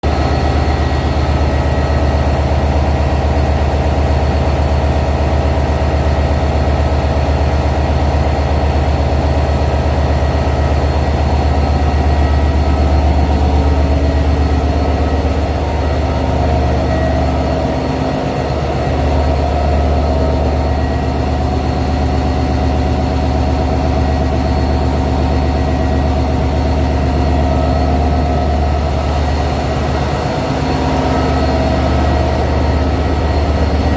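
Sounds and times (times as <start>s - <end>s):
locomotive engine drone: 0.0s - 33.9s.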